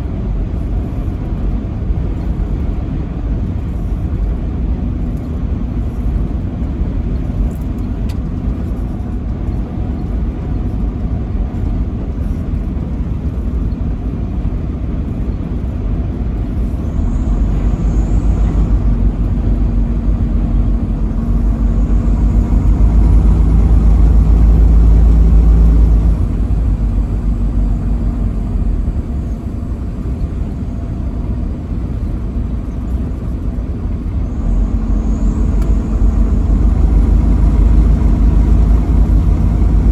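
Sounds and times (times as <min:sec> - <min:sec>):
road noise: 0:00.0 - 0:39.9
truck engine rumble: 0:00.0 - 0:39.9.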